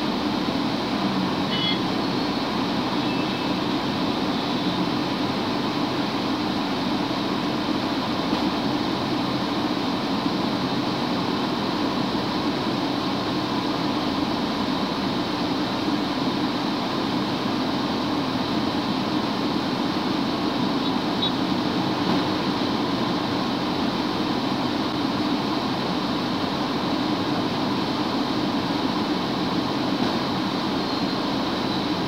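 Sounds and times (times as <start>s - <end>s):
vehicle road and engine noise: 0.0s - 32.0s.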